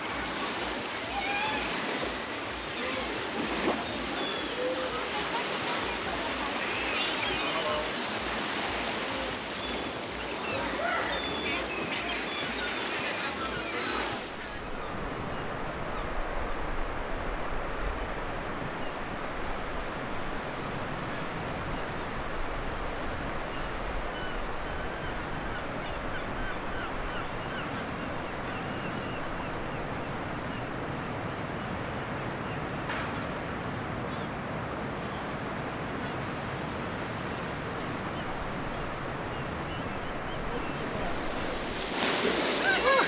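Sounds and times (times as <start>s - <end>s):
waves washing onto beach: 0.0s - 43.0s.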